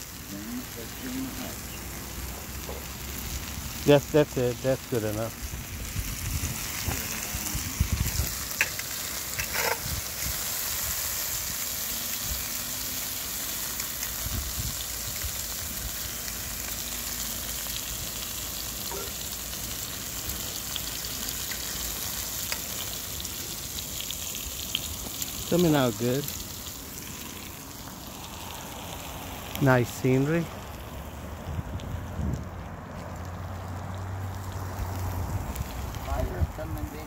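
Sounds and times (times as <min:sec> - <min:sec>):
vegetables sizzling in oil: 0:00.0 - 0:32.1, 0:33.1 - 0:37.0.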